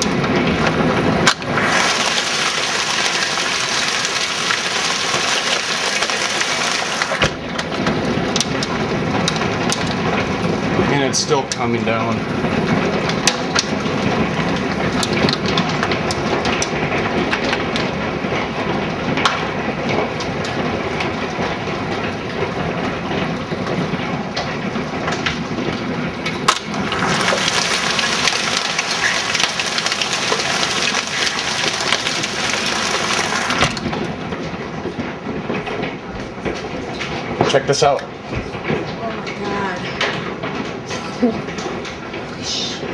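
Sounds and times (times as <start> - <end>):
hail and rain hissing: 0.0 - 42.9
hailstones cracking: 0.0 - 42.9.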